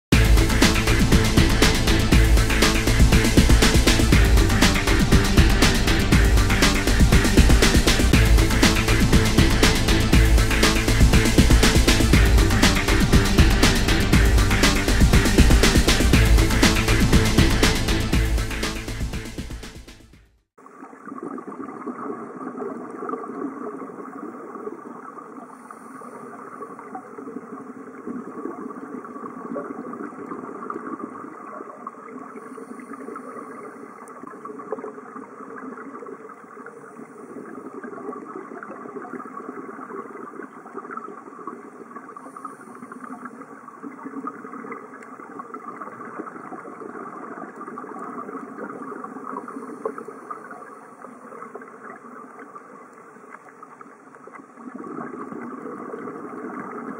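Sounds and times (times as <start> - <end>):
underwater rushing hum: 0.1 - 20.0, 20.6 - 56.9.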